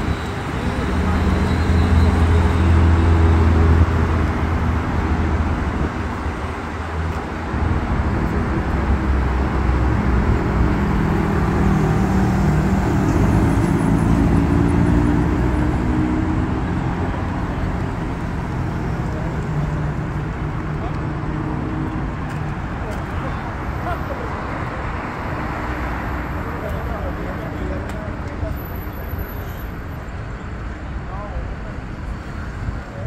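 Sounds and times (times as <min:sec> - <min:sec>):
cars passing close: 0:00.0 - 0:33.0.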